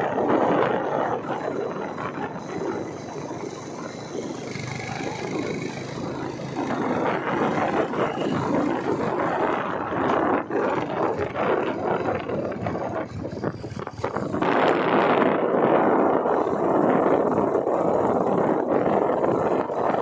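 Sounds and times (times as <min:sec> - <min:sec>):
vehicle running noise: 0:00.0 - 0:20.0
wind buffeting microphone: 0:00.0 - 0:20.0.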